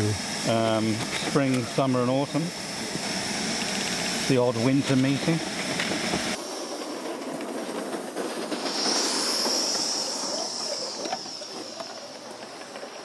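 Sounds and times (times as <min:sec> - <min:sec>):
high hiss: 0:00.0 - 0:13.0
model train wheels clattering on rails: 0:00.0 - 0:13.0.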